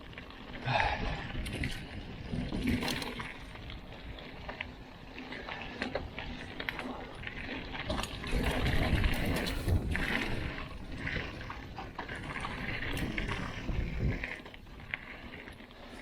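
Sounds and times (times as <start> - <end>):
bike tyres on dirt: 0.0 - 16.0
bike rattling clicks: 1.3 - 15.6.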